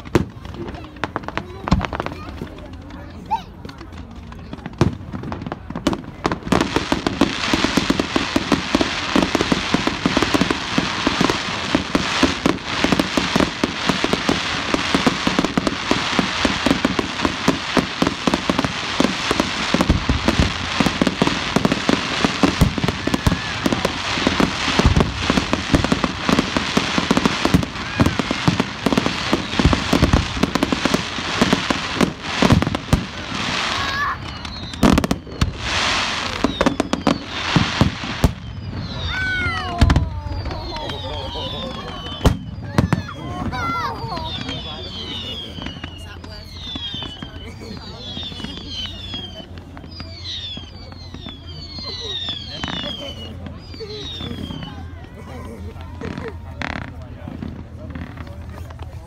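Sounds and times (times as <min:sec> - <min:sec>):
fireworks bangs and crackling: 0:00.0 - 0:59.0
heavy low firework thuds: 0:03.9 - 0:55.2.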